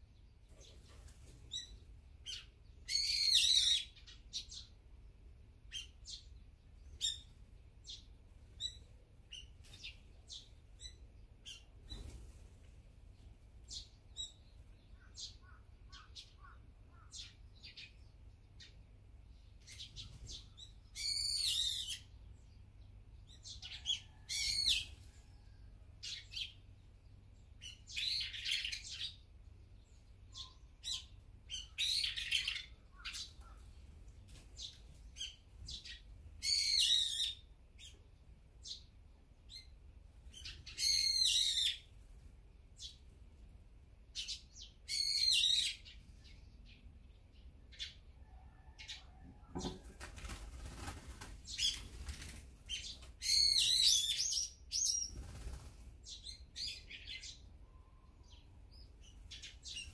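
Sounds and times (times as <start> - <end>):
faint bird chirps: 0.0 - 4.8, 5.7 - 12.2, 13.6 - 41.9, 44.2 - 50.7, 51.5 - 59.9.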